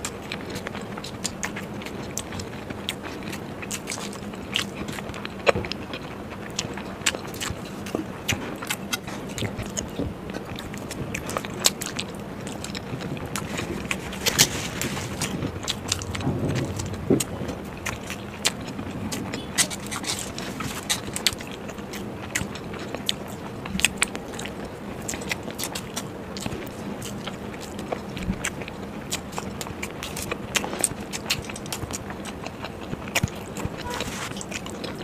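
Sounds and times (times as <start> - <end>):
close chewing: 0.0 - 35.0.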